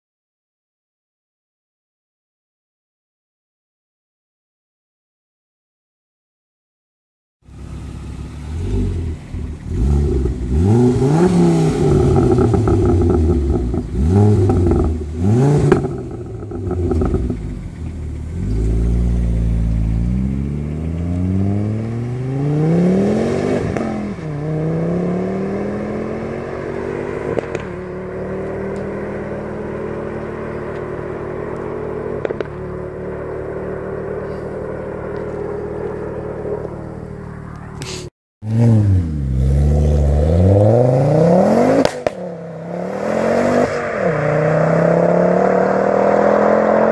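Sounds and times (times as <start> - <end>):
car engine revving: 7.5 - 37.8, 38.4 - 46.9.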